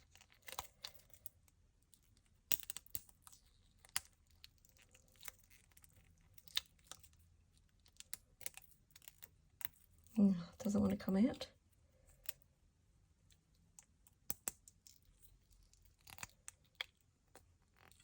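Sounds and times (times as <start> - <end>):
silicone mold clicking and crackling: 0.0 - 10.8, 13.2 - 18.0.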